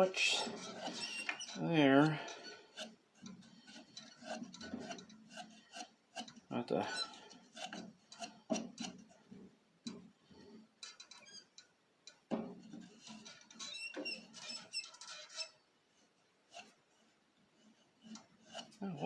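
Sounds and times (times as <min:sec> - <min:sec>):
hand tools clicking and scraping: 0:00.0 - 0:15.6, 0:17.7 - 0:19.0.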